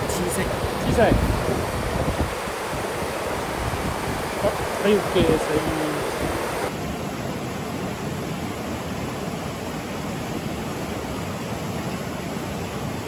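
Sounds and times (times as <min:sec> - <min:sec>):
stream rapids rushing: 0:00.0 - 0:13.0.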